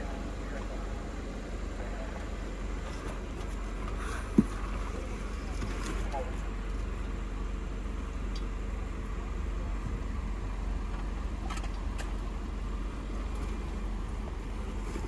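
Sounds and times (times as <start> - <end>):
off-road vehicle engine rumbling: 0.0 - 15.0.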